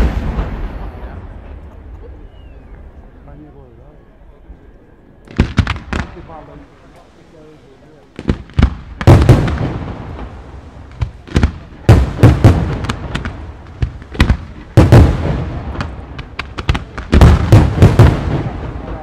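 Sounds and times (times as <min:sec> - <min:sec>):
firework bangs: 0:00.0 - 0:02.9, 0:05.3 - 0:19.0
firework crackling: 0:00.0 - 0:03.0, 0:05.2 - 0:19.0.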